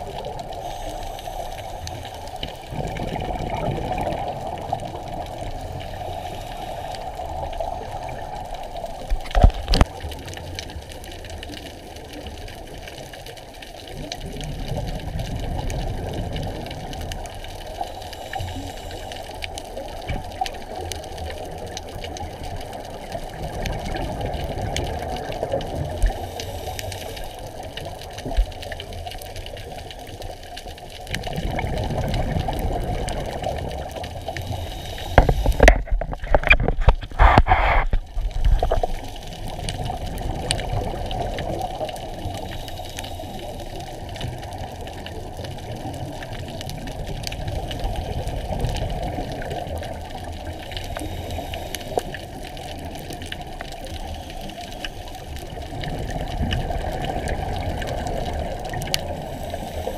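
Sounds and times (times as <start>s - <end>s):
crackling rushing noise: 0.0s - 59.9s
muffled underwater noise: 0.0s - 59.9s.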